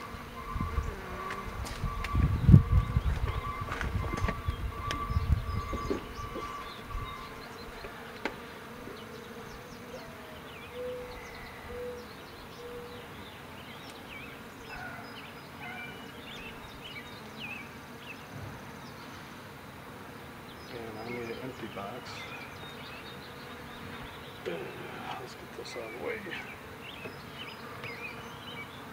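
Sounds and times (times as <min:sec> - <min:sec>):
bees buzzing: 0:00.0 - 0:28.9.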